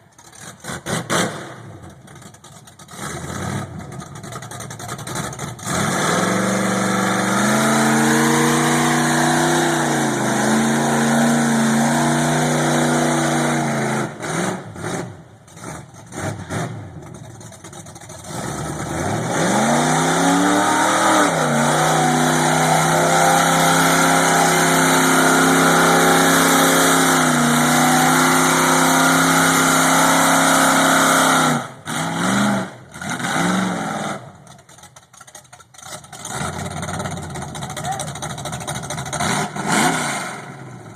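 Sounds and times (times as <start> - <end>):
engine revving: 2.8 - 17.3, 18.0 - 34.6, 35.8 - 40.9.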